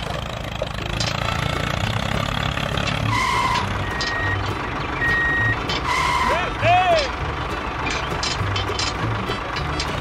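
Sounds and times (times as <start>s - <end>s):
diesel tractor engine running: 0.0s - 10.0s.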